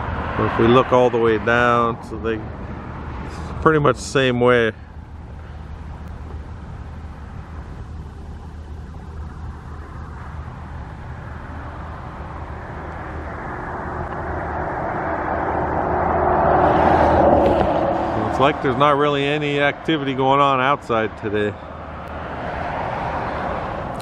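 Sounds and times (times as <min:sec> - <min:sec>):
outdoor traffic rumble: 0:00.0 - 0:24.0
vehicle approaching: 0:00.0 - 0:24.0.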